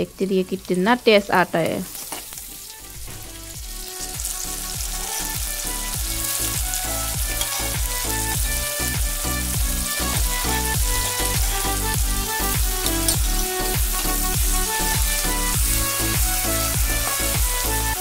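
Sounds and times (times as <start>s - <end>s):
onions sizzling in hot oil: 0.0s - 18.0s
music with thumping beat: 2.4s - 18.0s.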